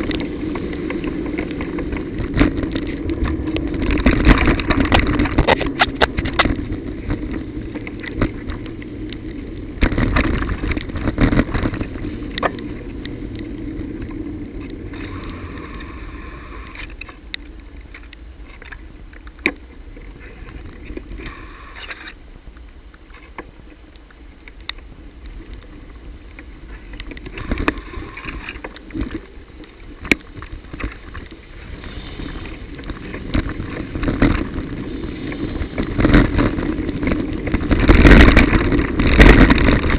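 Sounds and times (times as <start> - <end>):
bicycle knocks and rattles: 0.0 - 15.2, 23.0 - 39.9
bicycle riding rumble: 0.0 - 39.9.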